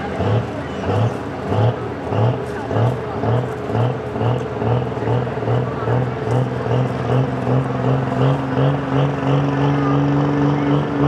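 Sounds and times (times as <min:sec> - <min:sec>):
higher engine tone: 0:00.0 - 0:11.0
truck engine revving under load: 0:00.0 - 0:11.0.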